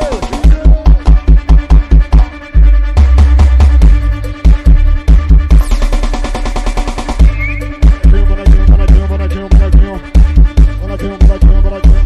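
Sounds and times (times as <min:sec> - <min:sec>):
funk music with heavy sub-bass: 0:00.0 - 0:12.0.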